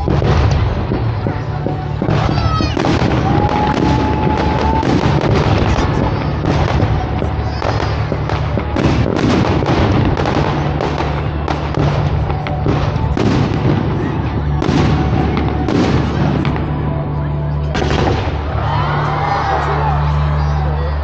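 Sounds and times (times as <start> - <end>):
fireworks bangs and crackling: 0.0 - 20.5
background music: 0.0 - 21.0.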